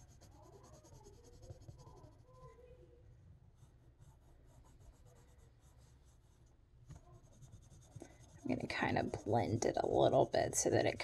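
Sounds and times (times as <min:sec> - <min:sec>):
colored pencil scratching paper: 0:00.0 - 0:02.5, 0:03.6 - 0:11.0.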